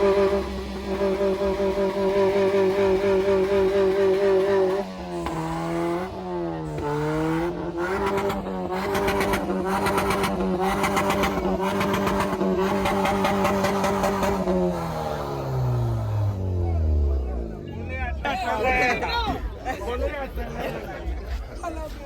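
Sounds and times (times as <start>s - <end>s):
car engine revving: 0.0s - 21.5s.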